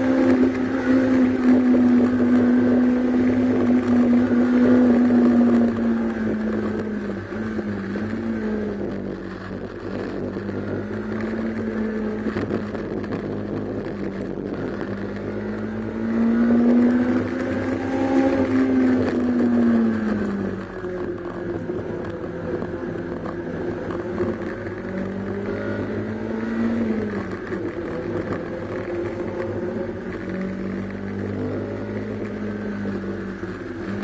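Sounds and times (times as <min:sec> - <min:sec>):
car engine at high revs: 0:00.0 - 0:34.0.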